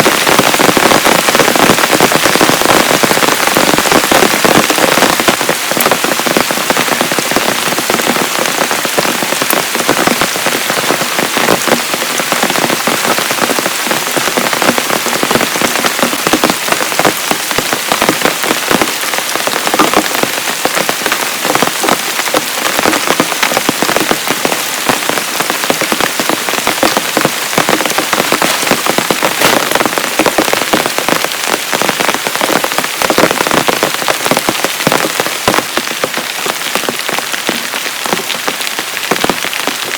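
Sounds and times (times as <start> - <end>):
heavy rain falling: 0.0 - 39.9
raindrops hitting a surface: 0.0 - 39.9.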